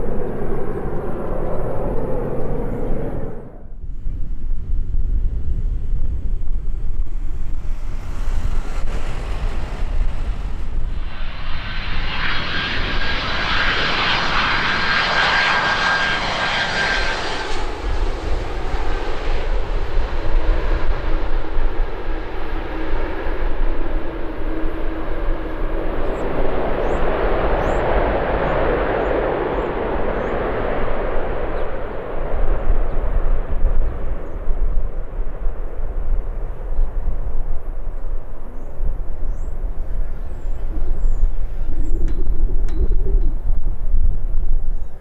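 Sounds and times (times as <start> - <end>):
broad jet roar: 0.0 - 3.8, 5.4 - 45.0
high jet engine whine: 0.0 - 45.0.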